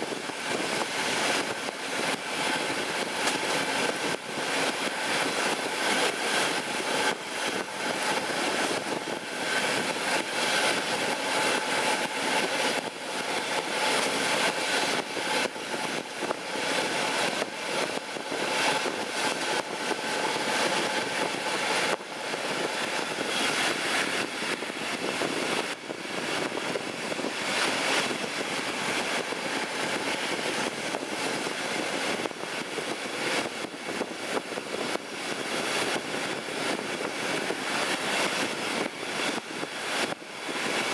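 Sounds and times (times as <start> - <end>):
diesel locomotive engine: 0.0 - 40.9
wheel rail and wind rush: 0.0 - 40.9.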